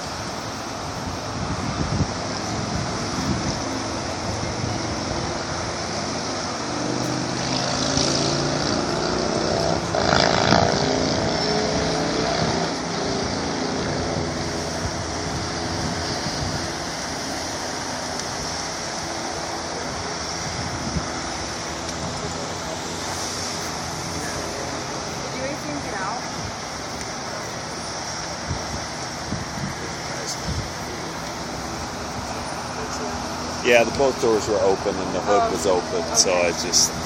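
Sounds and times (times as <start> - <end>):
wind on microphone: 0.0 - 27.0, 27.6 - 34.2
freeway traffic noise: 0.0 - 37.0
vehicle passing: 0.7 - 37.0.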